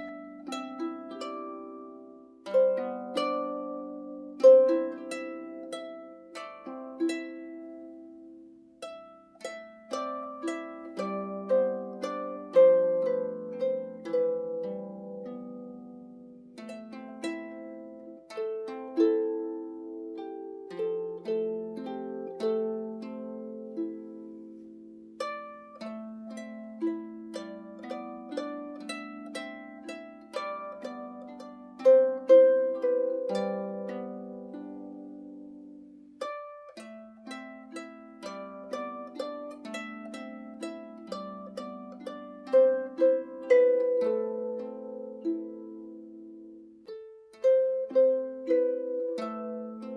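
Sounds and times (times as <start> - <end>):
harp playing slow melody: 0.0 - 49.9.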